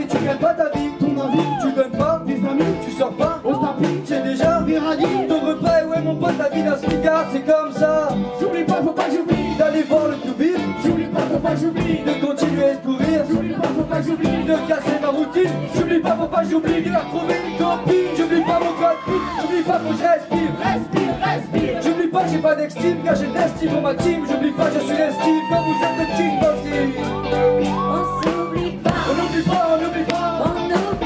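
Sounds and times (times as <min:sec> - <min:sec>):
accordion: 0:00.0 - 0:31.0
live band music: 0:00.0 - 0:31.0
person singing: 0:00.0 - 0:31.0
steady drum beat: 0:00.0 - 0:31.0.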